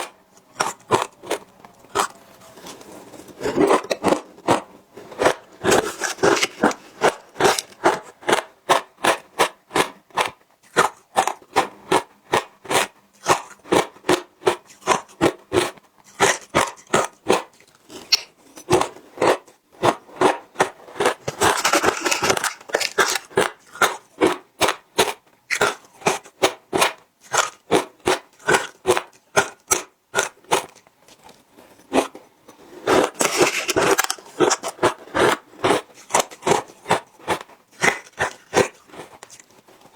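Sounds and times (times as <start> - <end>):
chewing crunchy ice: 0.0 - 32.2, 32.9 - 39.9.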